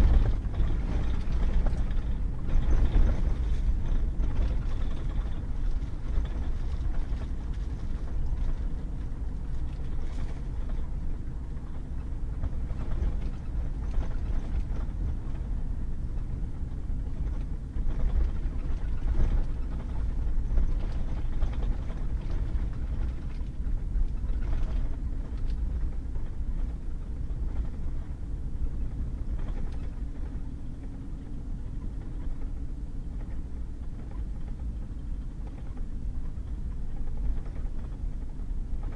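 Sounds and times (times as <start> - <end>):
truck engine and tyres rumbling: 0.0 - 38.9.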